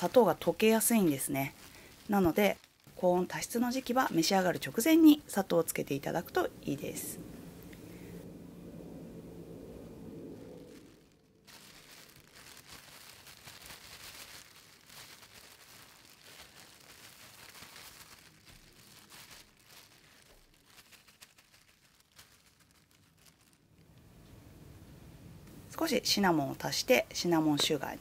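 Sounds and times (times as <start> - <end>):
plastic bag crinkling: 0.0 - 9.5, 10.1 - 24.1.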